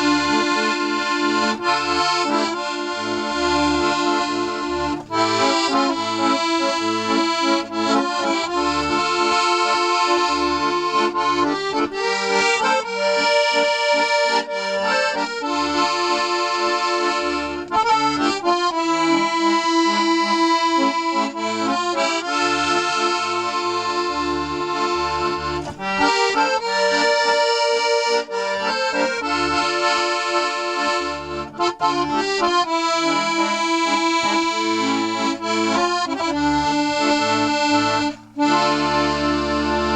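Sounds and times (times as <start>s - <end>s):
accordion folk tune: 0.0s - 39.9s.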